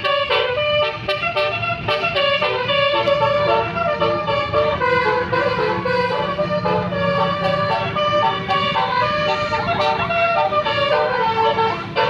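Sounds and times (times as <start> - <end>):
musical bus air horn: 0.0 - 12.0.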